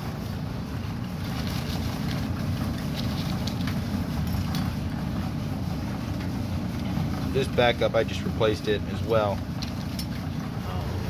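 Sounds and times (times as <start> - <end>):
electric dryer rumbling: 0.0 - 11.0.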